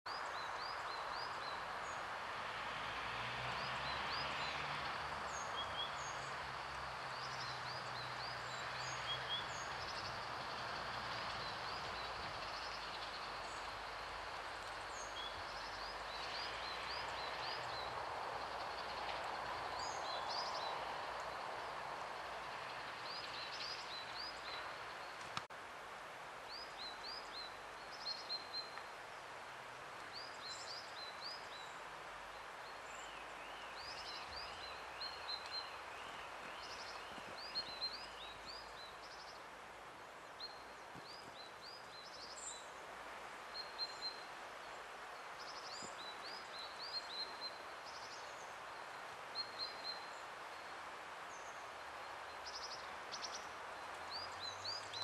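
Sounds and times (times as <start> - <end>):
small birds chirping: 3.5 - 25.5, 30.0 - 55.0.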